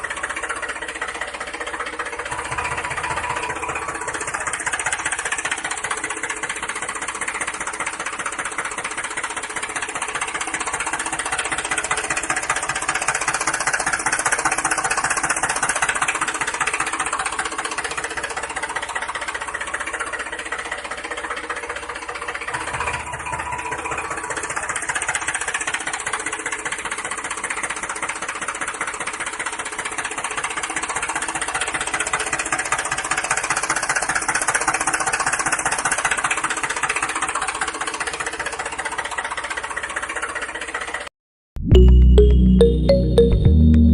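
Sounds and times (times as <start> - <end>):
small engine running: 0.0 - 41.1.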